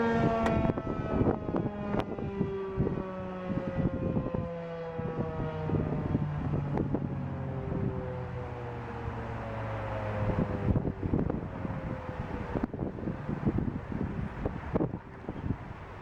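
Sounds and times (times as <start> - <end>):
siren winding down: 0.0 - 13.6
wind buffeting microphone: 0.0 - 16.0.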